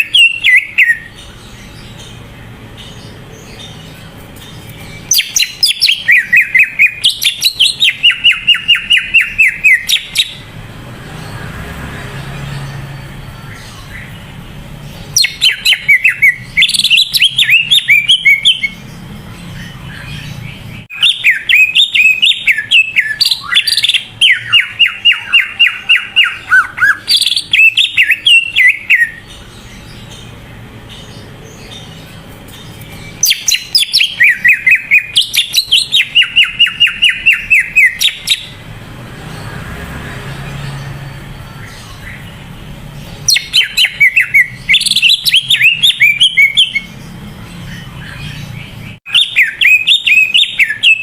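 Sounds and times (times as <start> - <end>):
bird chattering song: 0.0 - 11.7, 12.4 - 51.0.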